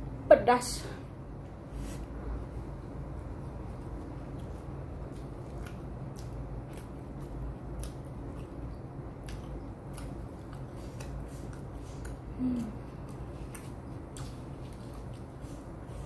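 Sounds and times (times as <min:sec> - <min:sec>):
low steady hum: 0:00.0 - 0:16.0
person chewing food: 0:02.6 - 0:16.0.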